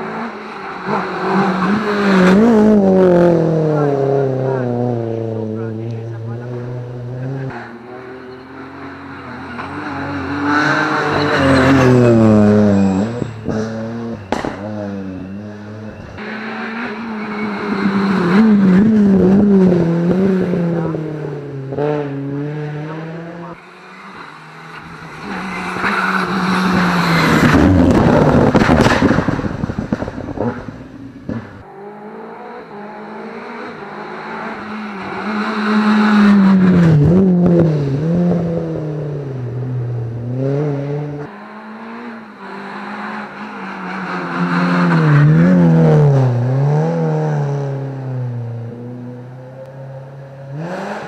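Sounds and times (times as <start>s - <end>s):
engines revving hard: 0.0s - 51.0s
rally cars passing: 0.0s - 51.0s.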